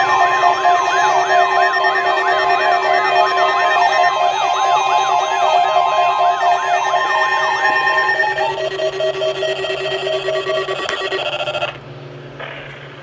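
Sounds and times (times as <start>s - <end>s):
fast wailing siren: 0.0s - 11.6s
steady high alarm tone: 0.0s - 11.7s
pulsing beeps: 0.0s - 11.8s.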